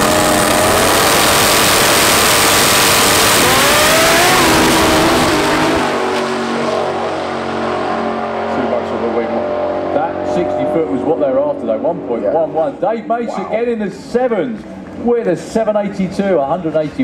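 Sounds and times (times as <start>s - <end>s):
second race car: 0.0s - 15.4s
race car engine at full throttle: 0.0s - 16.0s.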